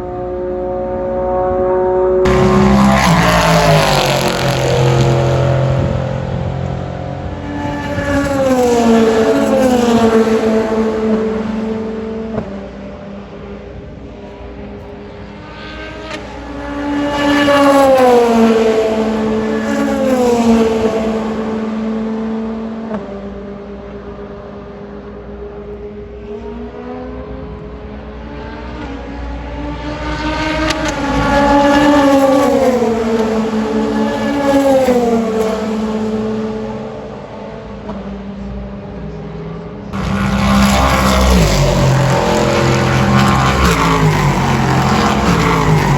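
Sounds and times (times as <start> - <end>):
steady engine hum: 0.0 - 24.4, 30.1 - 45.9
race car engines passing: 0.0 - 45.9.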